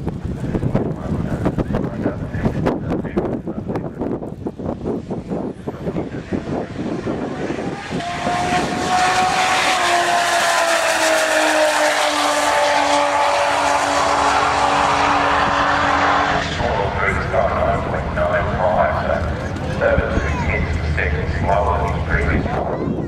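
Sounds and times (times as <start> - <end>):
drag car engine running hard: 0.0 - 22.7.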